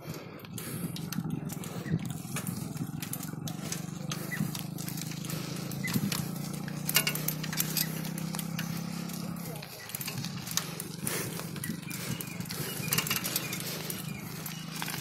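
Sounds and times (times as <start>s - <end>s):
bicycle rattling over gravel road: 0.0s - 15.0s
steady low hum: 0.0s - 15.0s.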